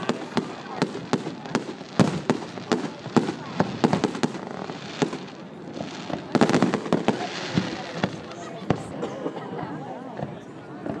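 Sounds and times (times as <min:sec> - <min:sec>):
fireworks bangs and crackles: 0:00.0 - 0:09.0, 0:10.2 - 0:11.0.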